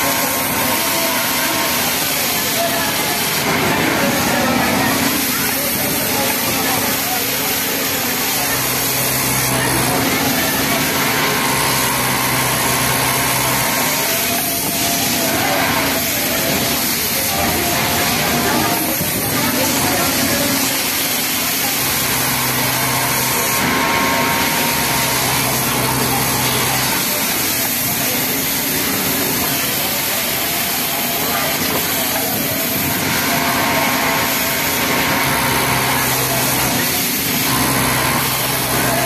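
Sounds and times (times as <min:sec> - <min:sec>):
din of other machines: 0:00.0 - 0:39.0
sewing machine stitching: 0:00.0 - 0:39.0.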